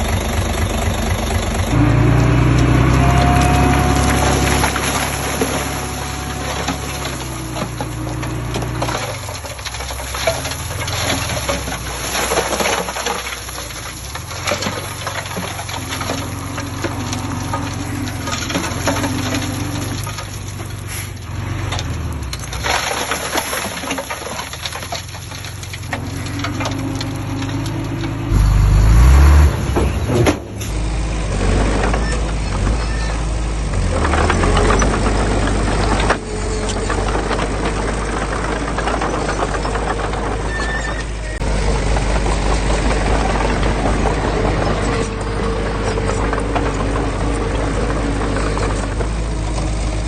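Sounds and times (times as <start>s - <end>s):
clanks and crackles of metal and soil: 0.0s - 50.0s
heavy diesel engine running: 0.0s - 50.0s.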